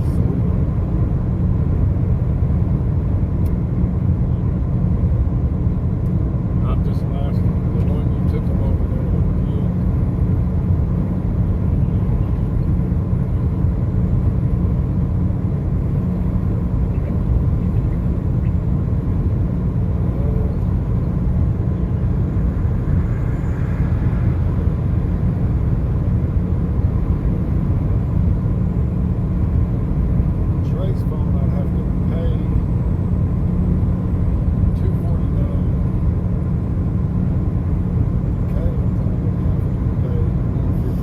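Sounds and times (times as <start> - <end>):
car driving on highway: 0.0 - 41.0.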